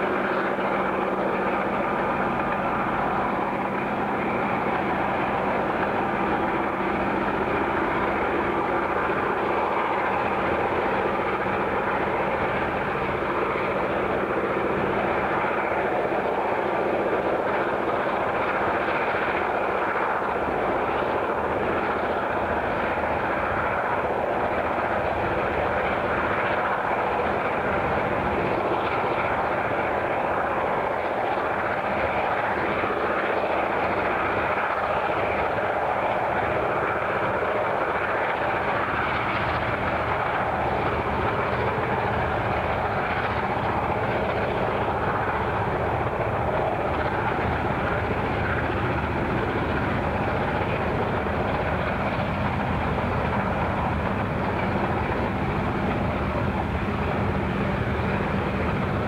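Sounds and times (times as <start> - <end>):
engine drone: 0.0 - 59.0.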